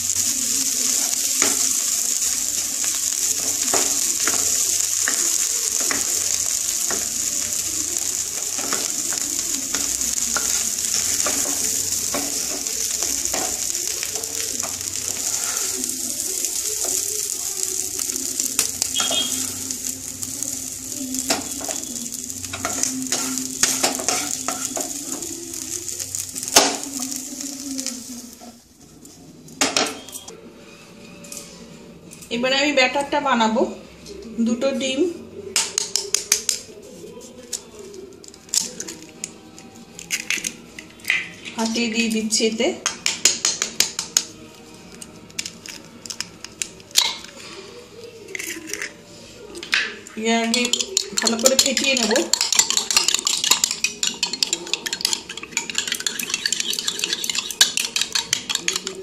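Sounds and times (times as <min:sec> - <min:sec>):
food sizzling in a pan: 0:00.0 - 0:30.3, 0:34.9 - 0:59.0.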